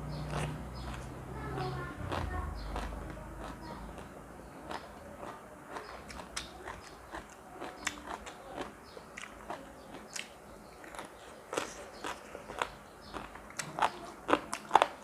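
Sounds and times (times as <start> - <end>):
crunchy bites and chewing: 0.1 - 1.1, 2.0 - 15.0.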